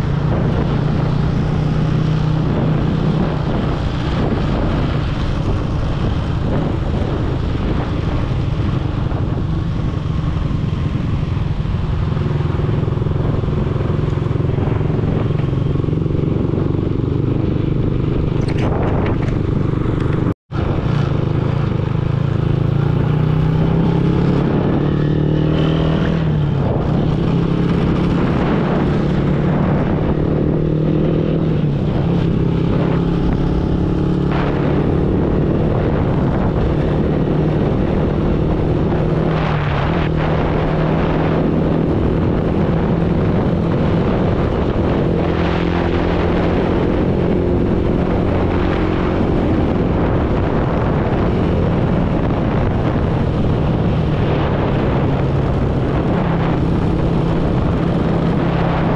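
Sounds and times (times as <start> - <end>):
wind rushing on microphone: 0.0 - 58.9.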